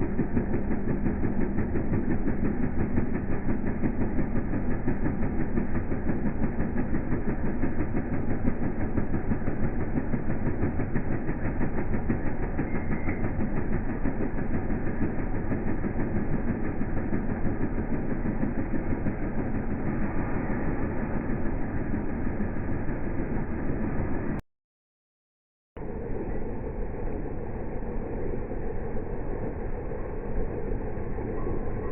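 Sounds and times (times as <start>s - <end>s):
engine chugging: 0.0s - 24.4s, 25.8s - 31.9s.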